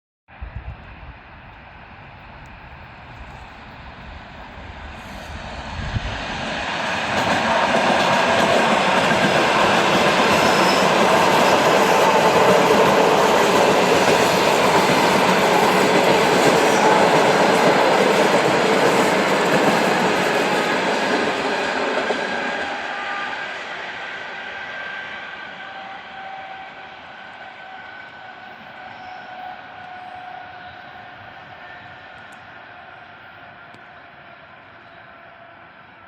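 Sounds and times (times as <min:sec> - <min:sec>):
electric train passing: 0:00.5 - 0:36.0.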